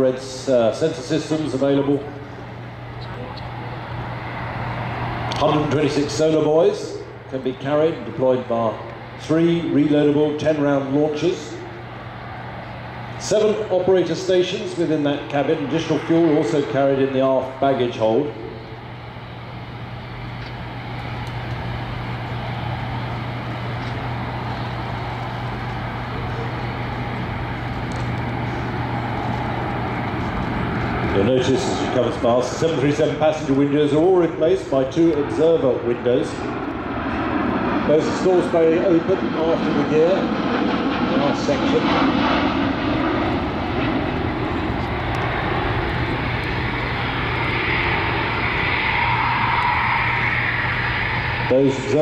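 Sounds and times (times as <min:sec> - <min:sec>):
jet engine rumble: 0:00.0 - 0:52.0.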